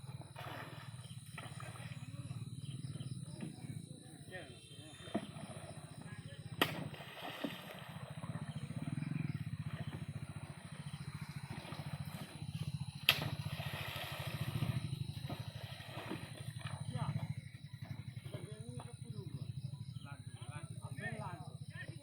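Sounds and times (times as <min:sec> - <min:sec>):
small engine chugging: 0:00.0 - 0:22.0.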